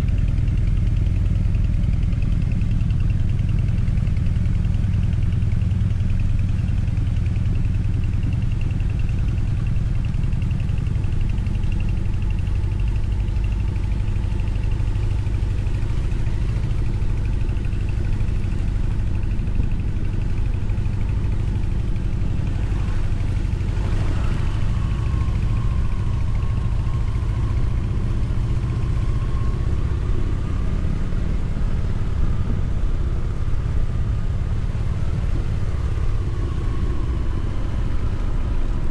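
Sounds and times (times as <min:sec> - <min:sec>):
motorcycle engine drone: 0:00.0 - 0:38.9.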